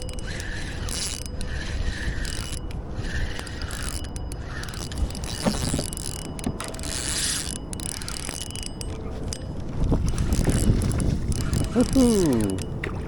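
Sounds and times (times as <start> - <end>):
fishing reel clicks: 0.0 - 12.8
fishing reel gears ratcheting: 0.0 - 12.8.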